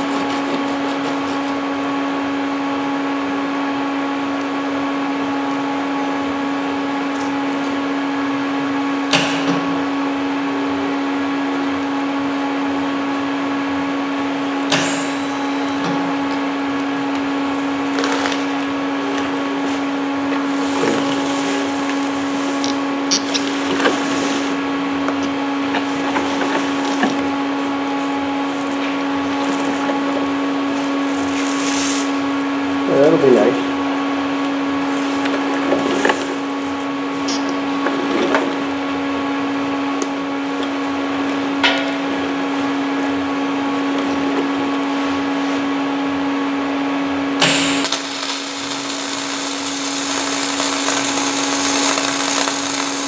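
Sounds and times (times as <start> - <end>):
steady machine hum: 0.0 - 53.0.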